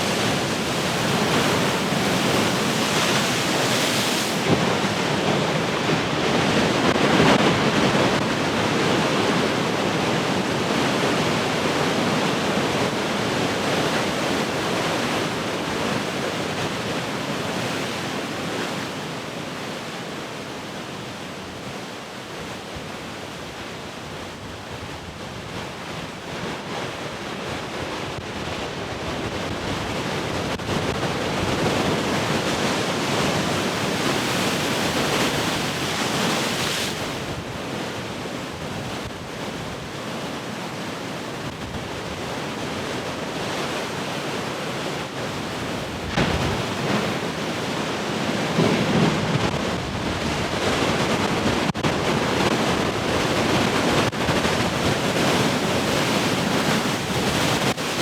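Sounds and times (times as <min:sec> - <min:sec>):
ocean waves breaking: 0:00.0 - 0:19.4, 0:30.2 - 0:58.0.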